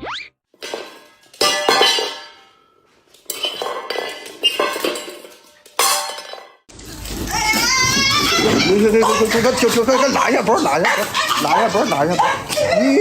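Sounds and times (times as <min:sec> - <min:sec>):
hard objects clattering and clinking: 0:00.5 - 0:12.8.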